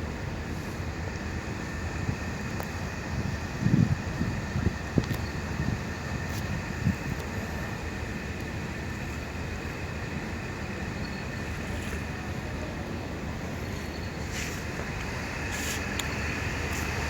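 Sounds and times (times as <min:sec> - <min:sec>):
faint high whine: 0:00.0 - 0:17.0
ship engines rumbling: 0:00.0 - 0:17.0.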